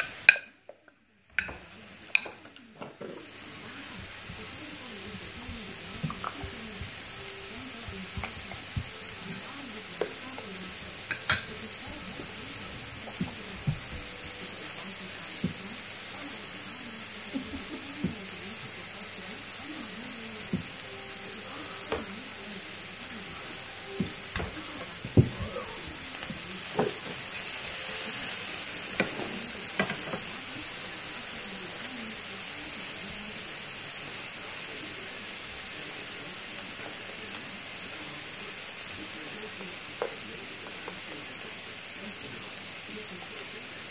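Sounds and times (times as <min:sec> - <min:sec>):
background hiss: 0:03.2 - 0:43.9.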